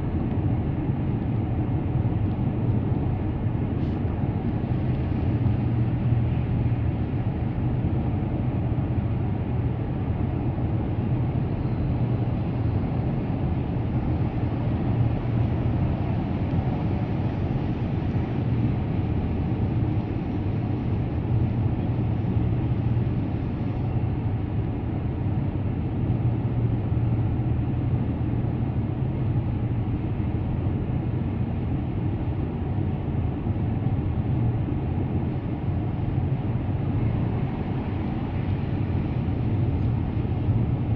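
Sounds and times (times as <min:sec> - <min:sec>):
car engine hum: 0:00.0 - 0:40.9
car tyre and road noise: 0:00.0 - 0:40.9.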